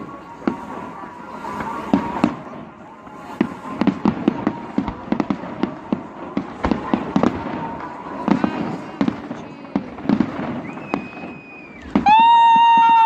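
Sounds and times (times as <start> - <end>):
deep firework booms: 0.0 - 13.0
fireworks cracking: 0.0 - 13.0.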